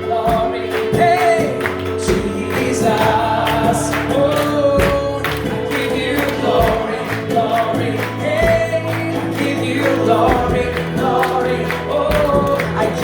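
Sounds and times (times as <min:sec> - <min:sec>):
band with bass and drums: 0:00.0 - 0:13.0
men singing: 0:00.0 - 0:13.0.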